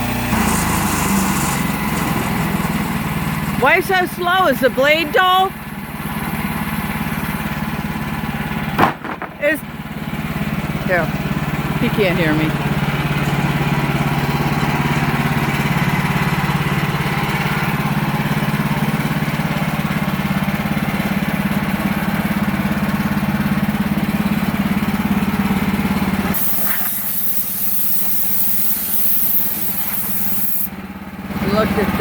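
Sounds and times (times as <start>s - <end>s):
sawmill engine under load: 0.0s - 32.0s.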